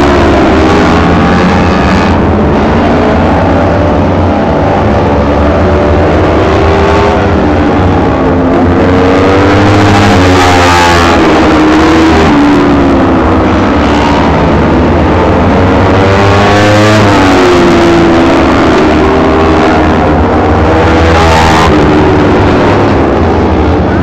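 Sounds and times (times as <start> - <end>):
race motorcycles revving: 0.0 - 24.0.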